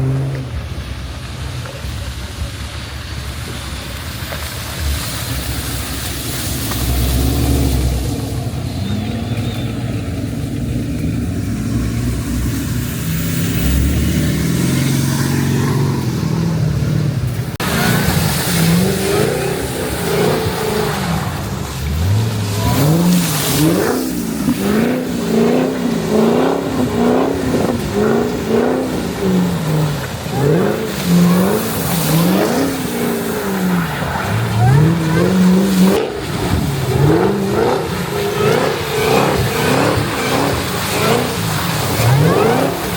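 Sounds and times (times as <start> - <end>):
car engine revving: 0.0 - 1.8, 3.7 - 42.9.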